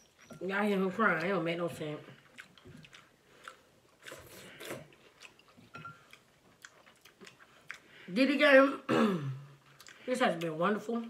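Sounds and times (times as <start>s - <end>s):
chewing and mouth sounds: 0.0s - 8.2s, 9.6s - 11.0s.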